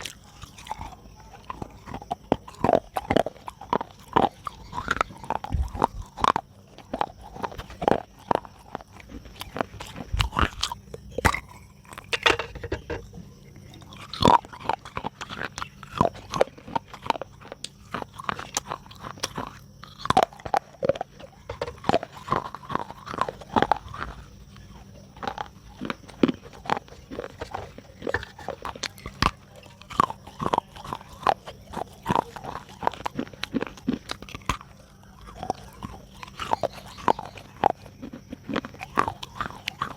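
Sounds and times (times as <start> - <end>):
person chewing crunchy clay: 0.0 - 39.9.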